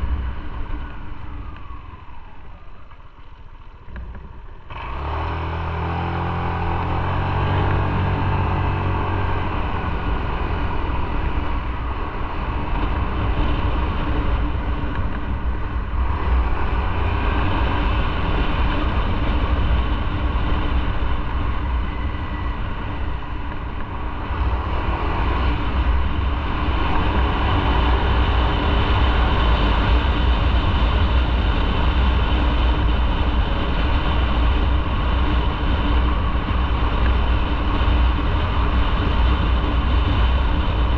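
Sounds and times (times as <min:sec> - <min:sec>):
road and wind rumble: 0:00.0 - 0:40.9
motorcycle engine running: 0:03.9 - 0:40.9.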